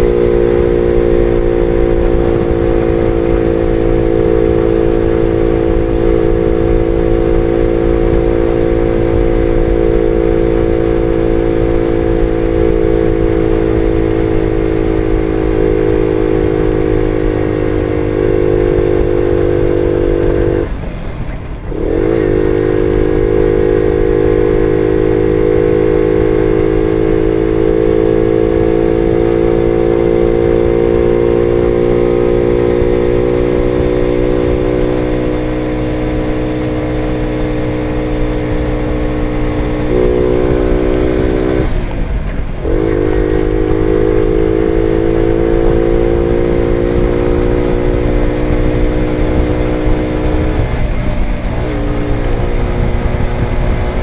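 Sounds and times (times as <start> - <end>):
moped engine running: 0.0 - 54.0.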